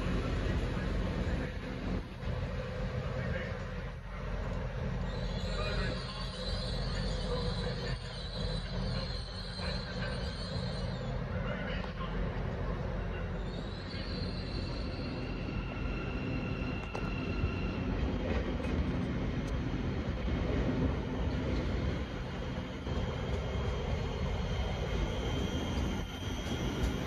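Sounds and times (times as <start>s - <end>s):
train rail rumble: 0.0s - 27.0s.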